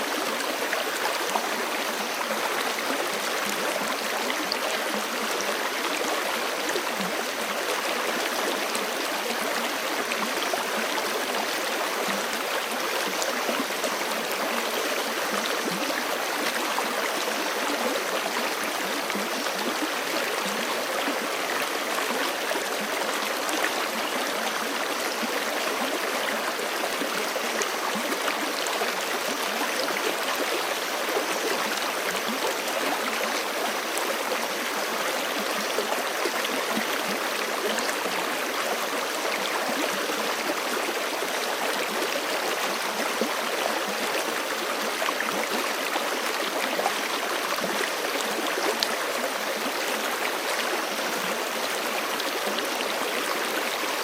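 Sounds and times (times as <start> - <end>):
creek flowing over rocks: 0.0 - 54.0.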